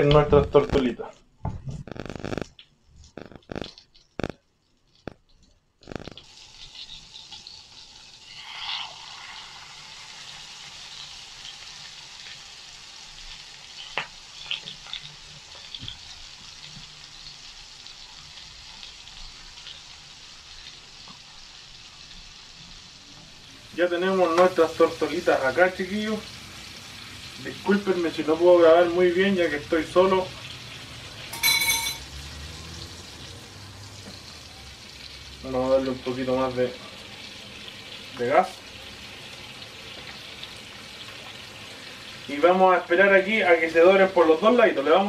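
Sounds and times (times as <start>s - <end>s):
birds frying in butter sizzling: 1.8s - 45.0s.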